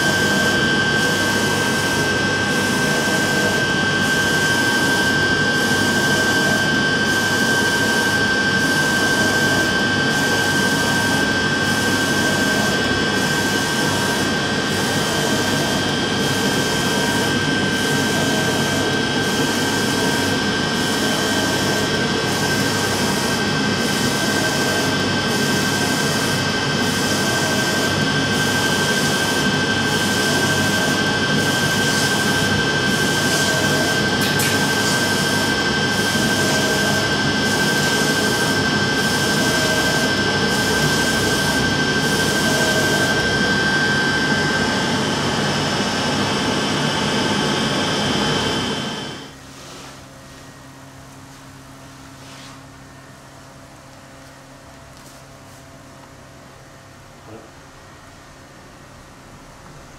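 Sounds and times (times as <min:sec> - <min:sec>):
high whine: 0:00.0 - 0:49.4
printer fans whirring: 0:00.0 - 0:59.9.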